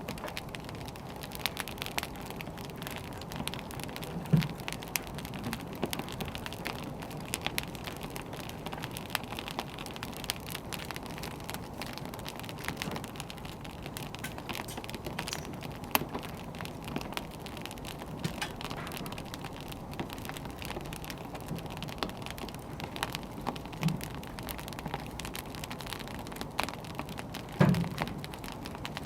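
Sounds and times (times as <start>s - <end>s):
firewood burning and crackling: 0.0s - 29.0s.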